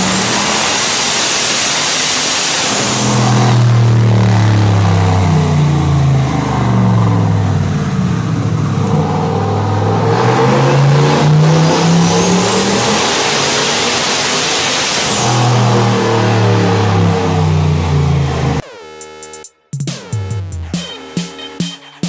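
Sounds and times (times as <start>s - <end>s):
engine running on dyno: 0.0s - 18.7s
high turbo whine: 0.0s - 18.7s.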